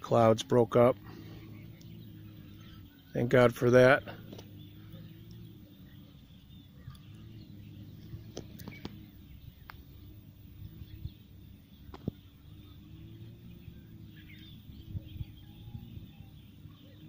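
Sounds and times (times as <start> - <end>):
faint bird chirps: 0.0 - 17.0
faint hum: 0.0 - 17.0.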